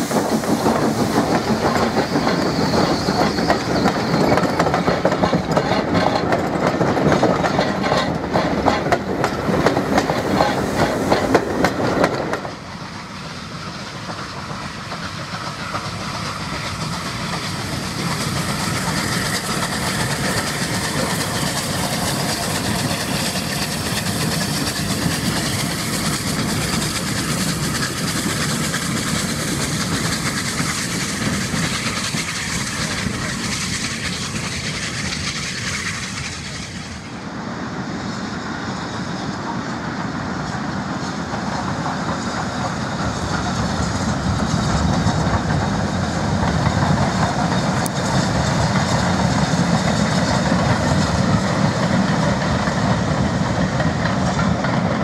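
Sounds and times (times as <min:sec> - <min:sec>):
steam train passing: 0:00.0 - 0:55.0.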